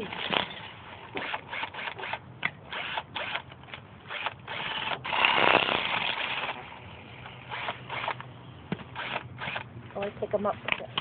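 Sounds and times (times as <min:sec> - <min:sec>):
cordless drill churning soil: 0:00.0 - 0:08.2, 0:09.0 - 0:09.7.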